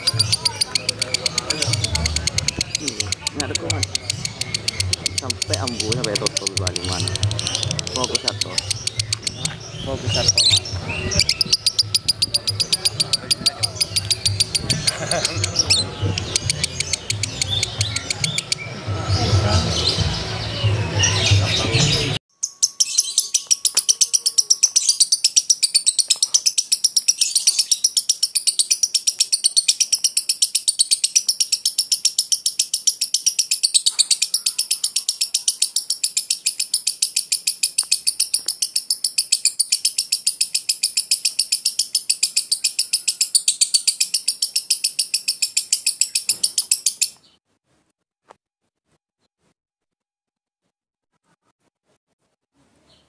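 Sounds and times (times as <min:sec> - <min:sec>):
lovebird chattering: 0:00.0 - 0:18.7, 0:22.6 - 0:47.2.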